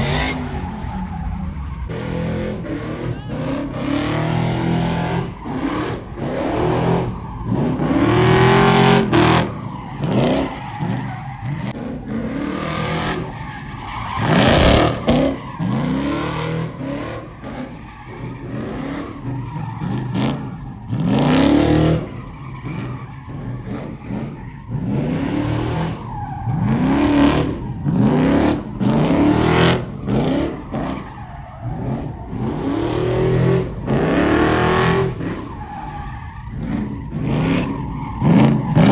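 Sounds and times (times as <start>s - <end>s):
engines revving hard: 0.0s - 38.9s
tire squeal: 0.0s - 38.9s.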